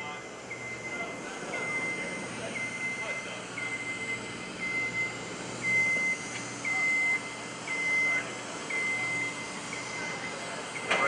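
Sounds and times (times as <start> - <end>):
electronic warning beeps: 0.0 - 11.0.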